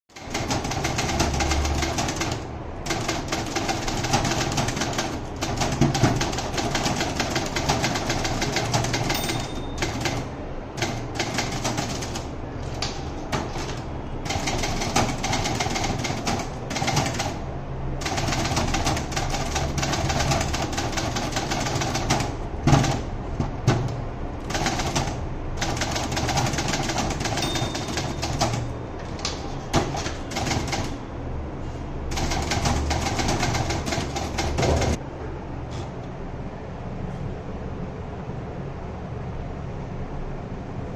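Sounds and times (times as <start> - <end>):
fast typewriter typing: 0.1 - 31.0, 32.1 - 35.0.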